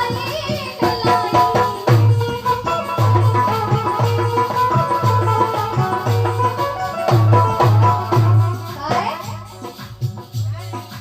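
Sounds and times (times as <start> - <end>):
held melodic line: 0.9 - 10.2.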